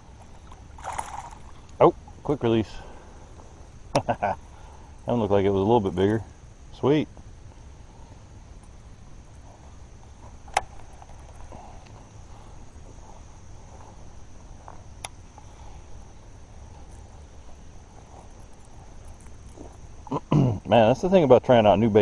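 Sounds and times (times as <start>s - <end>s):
insects chirring: 0.0s - 22.0s
low outdoor rumble: 0.0s - 22.0s.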